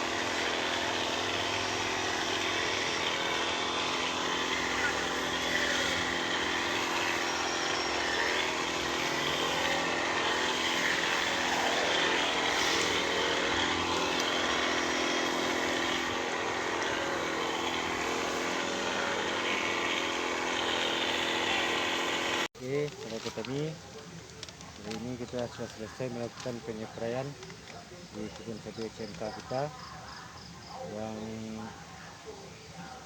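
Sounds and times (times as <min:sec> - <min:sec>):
small petrol engine running: 0:00.0 - 0:33.0.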